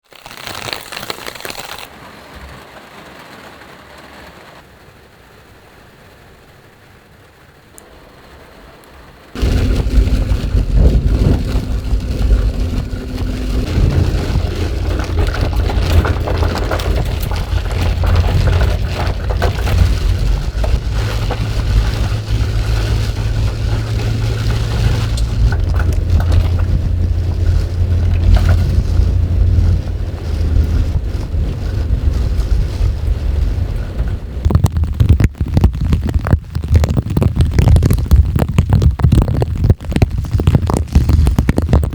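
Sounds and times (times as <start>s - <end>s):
heavy rain on metal roof: 0.1s - 41.9s.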